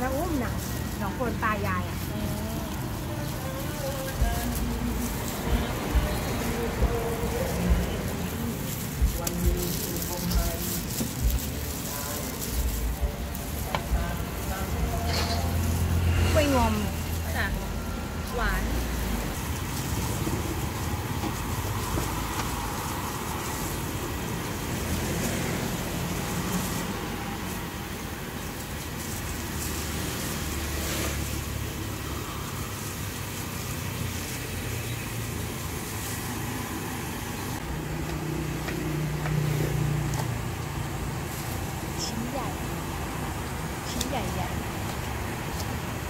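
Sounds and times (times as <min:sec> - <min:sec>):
low traffic rumble: 0:00.0 - 0:46.0.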